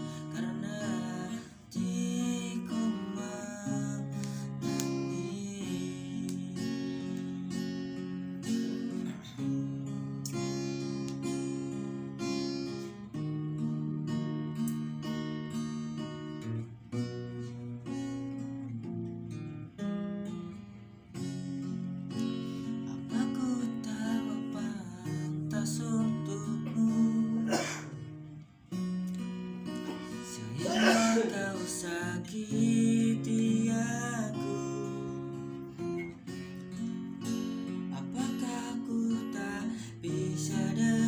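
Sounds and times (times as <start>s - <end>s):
acoustic guitar strumming chords: 0.0s - 41.0s.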